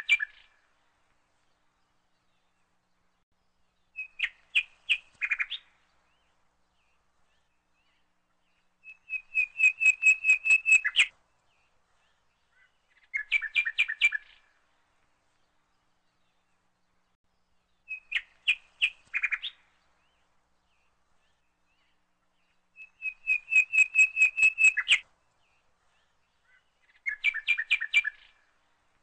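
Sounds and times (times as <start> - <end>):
songbird chirping trills: 0.0 - 29.0.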